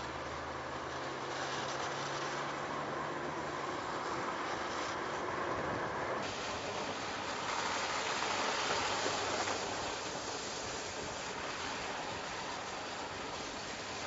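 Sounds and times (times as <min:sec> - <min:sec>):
tyres hissing on wet road: 0:00.0 - 0:14.0.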